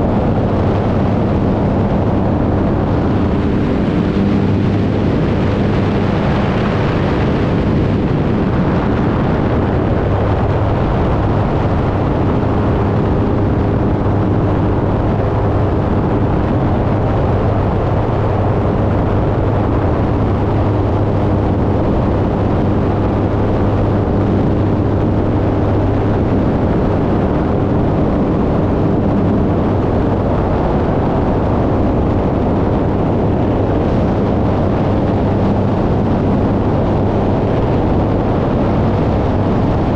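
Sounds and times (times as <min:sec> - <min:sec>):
air noise: 0:00.0 - 0:39.9
airplane engine and propeller droning: 0:00.0 - 0:39.9.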